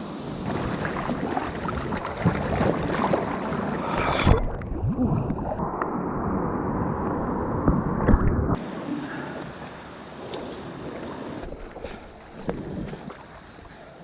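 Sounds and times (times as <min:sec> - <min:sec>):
water splashing and gurgling: 0:00.0 - 0:14.0.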